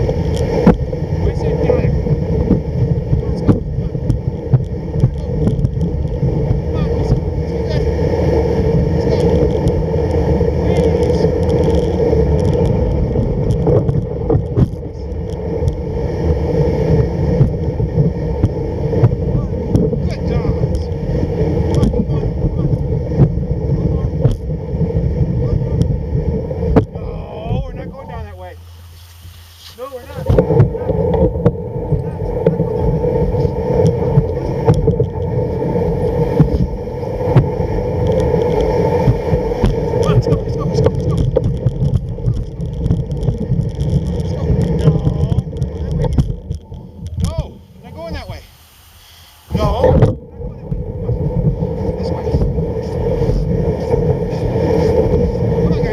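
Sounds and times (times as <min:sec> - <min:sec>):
sled runners scraping on snow: 0:00.0 - 0:26.7, 0:27.7 - 0:55.9
sled knocking: 0:00.0 - 0:28.5, 0:29.3 - 0:48.4.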